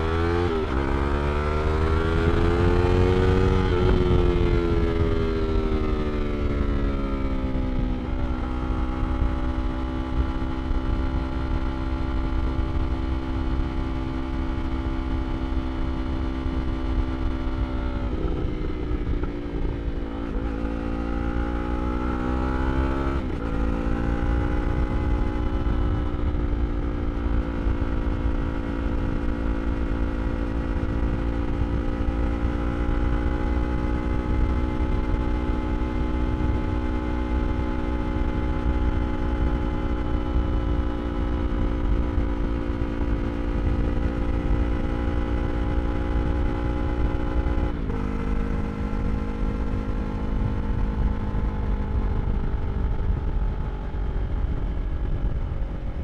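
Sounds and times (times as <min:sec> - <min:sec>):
motorcycle engine running: 0:00.0 - 0:56.0
wind noise rumble: 0:00.0 - 0:56.0.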